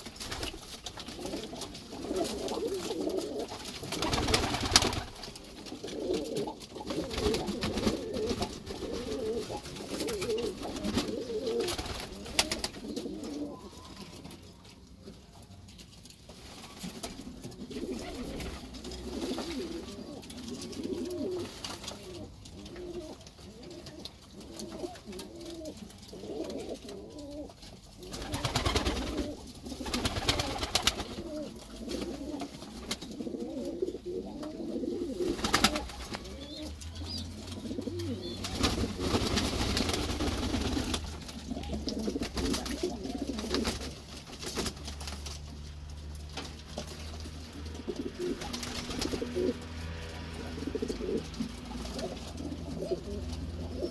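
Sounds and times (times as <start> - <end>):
wings flapping and splashing: 0.0 - 13.4, 16.4 - 22.3, 28.0 - 33.4, 35.0 - 53.9
pigeons cooing: 0.0 - 15.2, 16.6 - 53.9.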